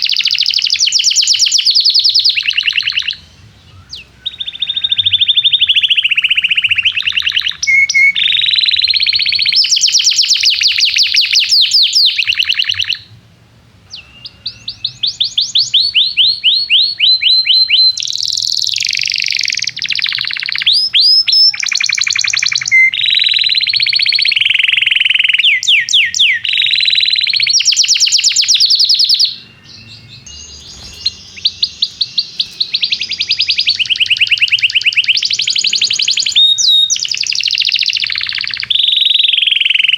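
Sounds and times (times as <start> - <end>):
canary singing trills: 0.0 - 13.2, 13.9 - 39.9.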